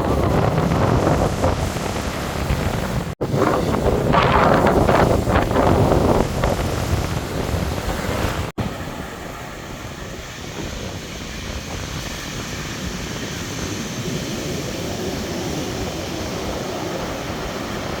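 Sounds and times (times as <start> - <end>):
heavy surf pounding a beach: 0.0 - 18.0
wind on the microphone: 0.0 - 18.0.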